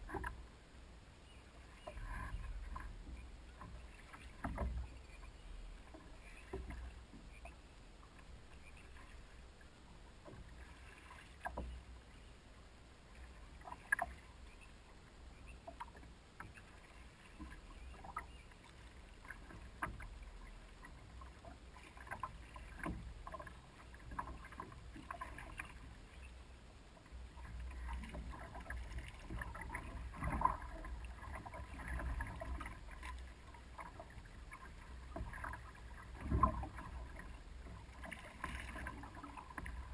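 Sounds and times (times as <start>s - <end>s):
paddle splashing water: 1.2s - 39.9s.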